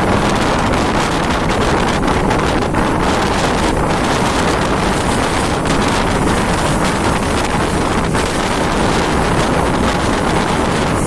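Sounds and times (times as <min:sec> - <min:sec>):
train rumbling on track: 0:00.0 - 0:11.0
wind rushing over microphone: 0:00.0 - 0:11.0.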